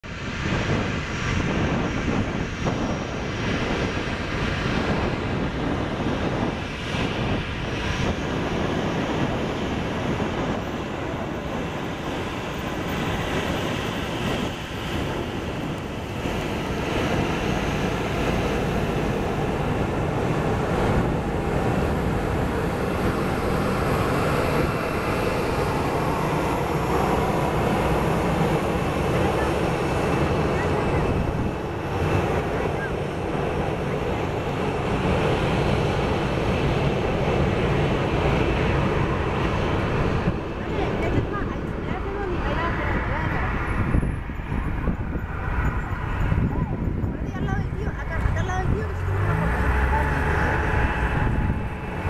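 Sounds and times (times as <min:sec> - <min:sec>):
jet engines rushing: 0:00.0 - 0:52.0
faint high engine whine: 0:09.3 - 0:52.0.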